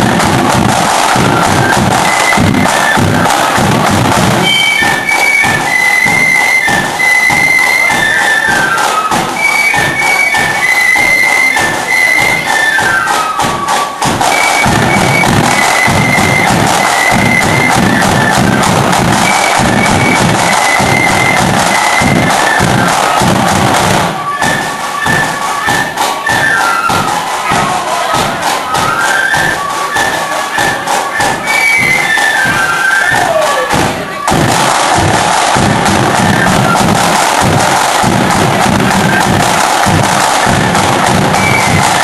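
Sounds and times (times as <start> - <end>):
crowd cheering: 0.0 - 42.0
flutes playing shrill tune: 0.0 - 42.0
side drums and bass drum: 0.0 - 42.0.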